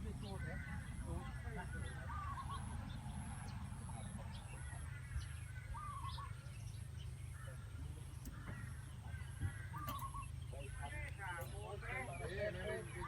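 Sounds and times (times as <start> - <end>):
bird chirps: 1.6 - 13.0.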